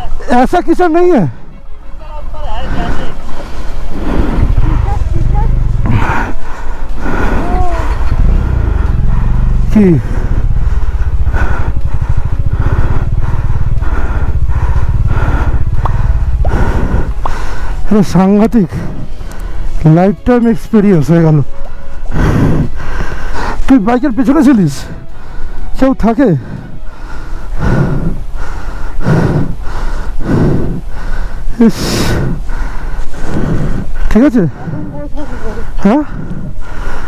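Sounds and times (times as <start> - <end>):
person breathing hard: 2.6 - 19.8, 21.5 - 23.7, 24.8 - 37.0
motorcycle engine running: 3.5 - 36.6.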